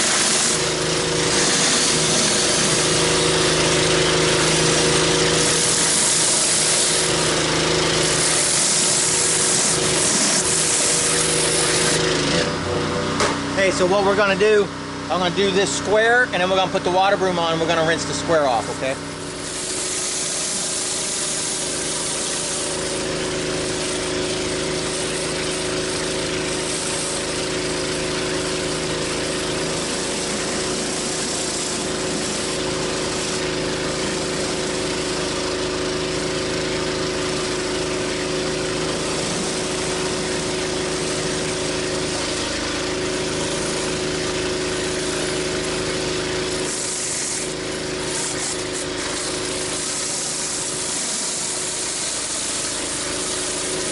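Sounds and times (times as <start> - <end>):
high-pressure water spraying: 0.0 - 12.8, 17.7 - 53.9
pressure washer engine running: 0.0 - 53.9.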